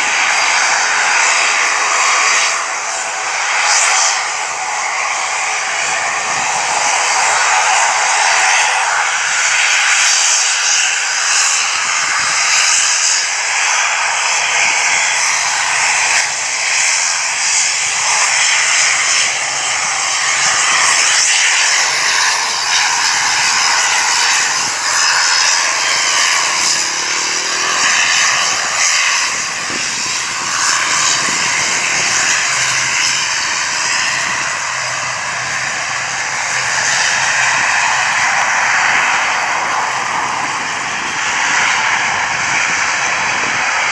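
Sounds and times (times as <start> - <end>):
aircraft engines running: 0.0 - 43.9
high thin engine whine: 0.0 - 43.9.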